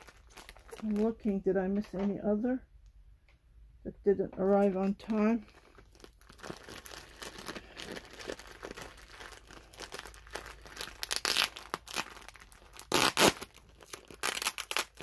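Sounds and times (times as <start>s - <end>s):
plastic bag crinkling: 0.0s - 2.0s, 4.6s - 15.0s.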